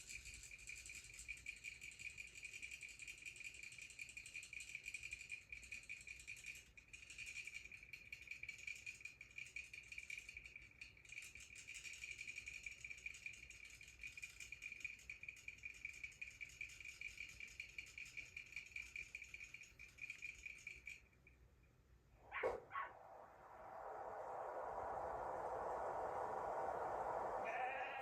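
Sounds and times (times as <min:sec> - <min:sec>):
faint high insect trill: 0:00.0 - 0:28.0.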